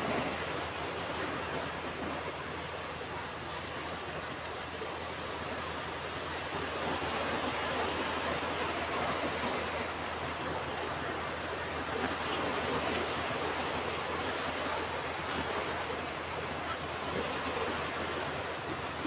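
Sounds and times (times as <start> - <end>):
ocean surf on beach: 0.0 - 19.0.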